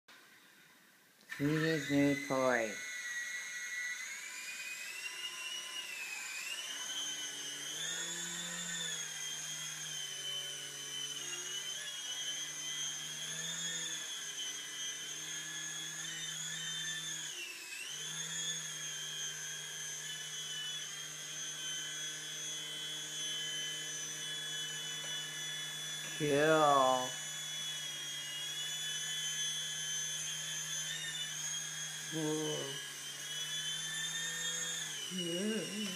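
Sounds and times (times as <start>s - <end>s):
toy helicopter motors whining: 1.3s - 35.9s.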